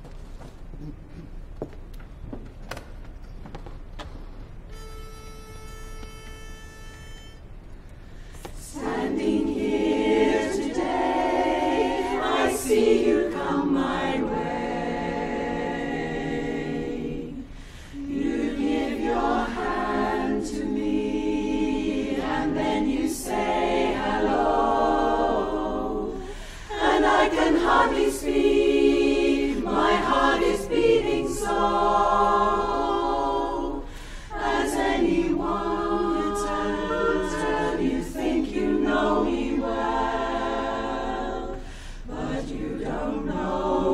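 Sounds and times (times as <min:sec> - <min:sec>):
women's chorus singing a cappella: 0:08.3 - 0:43.9.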